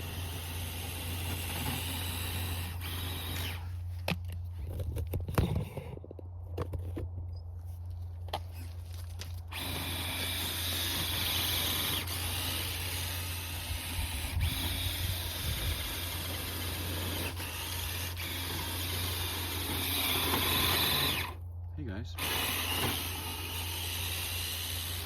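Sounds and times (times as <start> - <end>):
toy car motor and tires in snow: 0.0 - 25.0.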